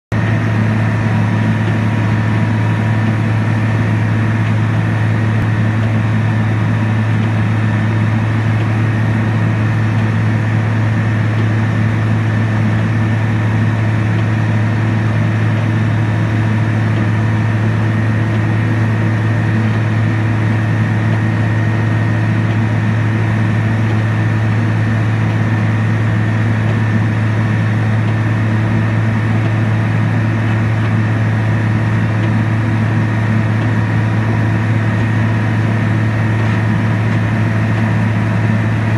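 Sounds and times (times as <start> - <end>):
diesel engine droning: 0.1 - 38.9.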